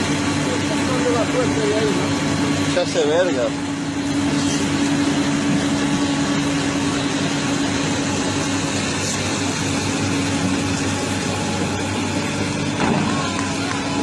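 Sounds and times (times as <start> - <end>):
heavy machinery engine droning: 0.0 - 14.0.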